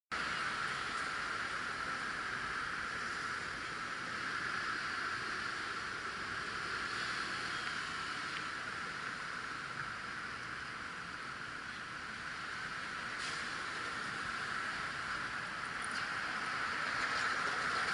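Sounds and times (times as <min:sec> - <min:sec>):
background street noise hiss: 0:00.1 - 0:17.9.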